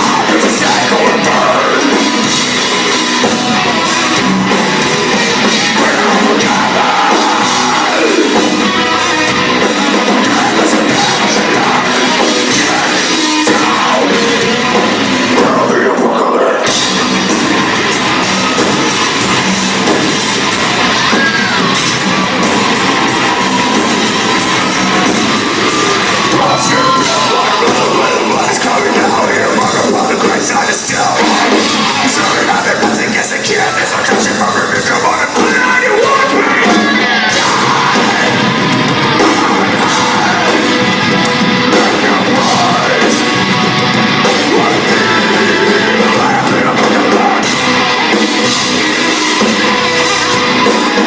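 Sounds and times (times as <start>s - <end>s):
heavy metal band playing live: 0.0s - 51.0s
singing and yelled vocals: 0.0s - 51.0s.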